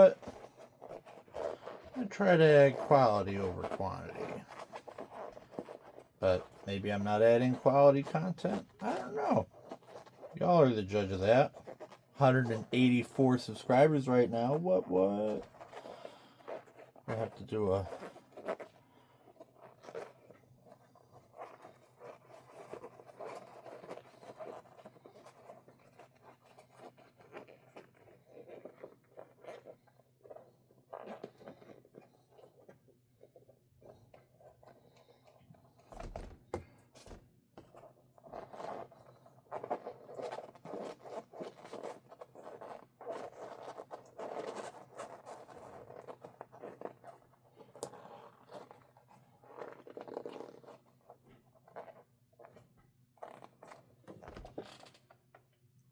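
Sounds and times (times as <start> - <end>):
scraping and rustling: 0.0 - 55.4.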